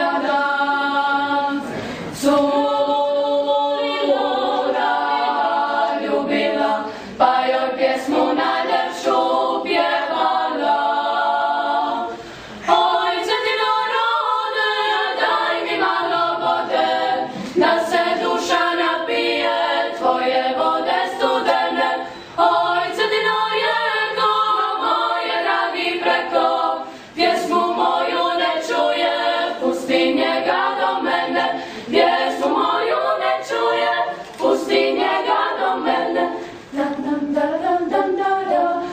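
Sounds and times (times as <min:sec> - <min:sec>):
girls singing close harmony: 0:00.0 - 0:38.9.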